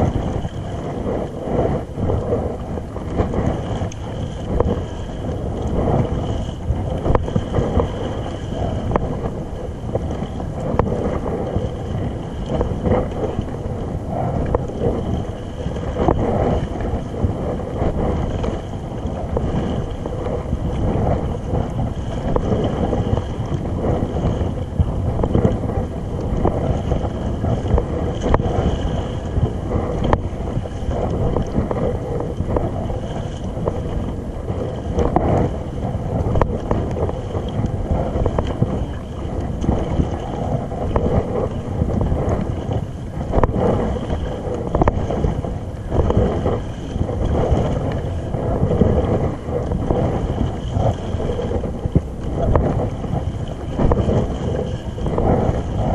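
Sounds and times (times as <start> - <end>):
water lapping around kayak: 0.0 - 55.9
wind buffeting microphone: 0.0 - 55.9.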